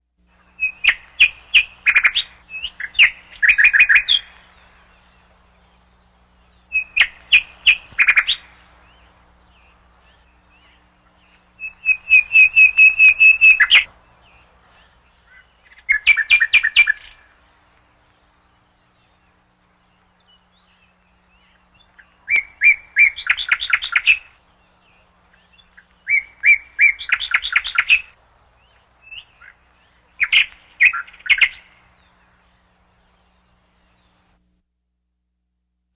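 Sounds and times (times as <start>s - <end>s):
nightingale singing: 0.3s - 34.3s.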